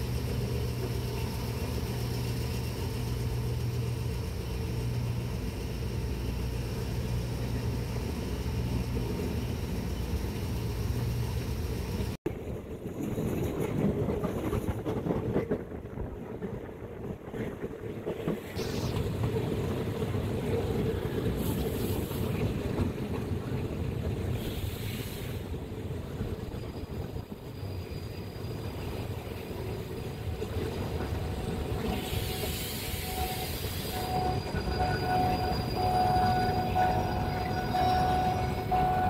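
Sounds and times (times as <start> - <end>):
moving train running noise: 0.0 - 39.0.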